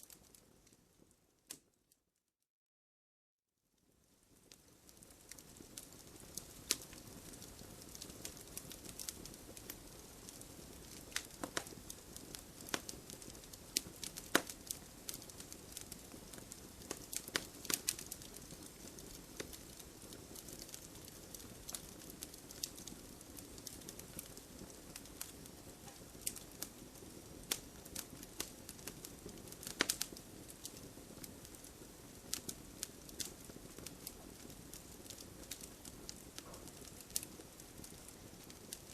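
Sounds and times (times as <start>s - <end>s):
low rustle of flames: 0.0s - 1.7s, 3.8s - 38.9s
wood fire crackling and popping: 0.0s - 1.7s, 3.8s - 38.9s.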